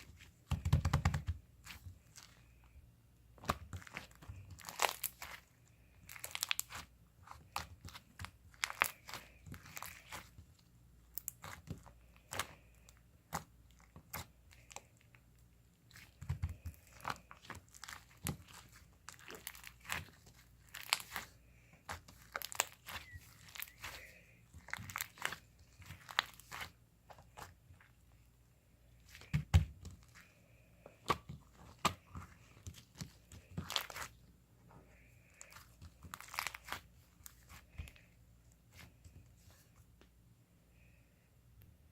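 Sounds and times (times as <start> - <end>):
crinkling and crunching handling: 0.0 - 40.2.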